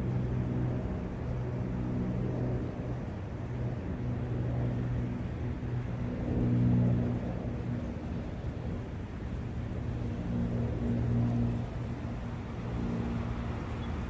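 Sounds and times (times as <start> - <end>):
distant engine hum: 0.0 - 14.0.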